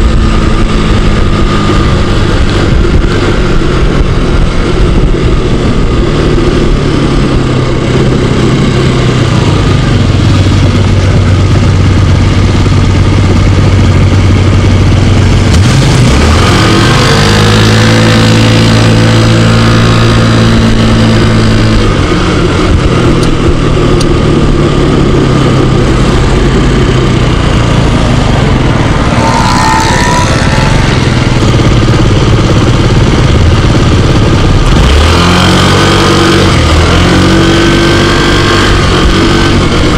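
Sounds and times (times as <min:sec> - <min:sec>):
scooter engine accelerating: 0:00.0 - 0:39.9
wind and road noise: 0:00.0 - 0:39.9.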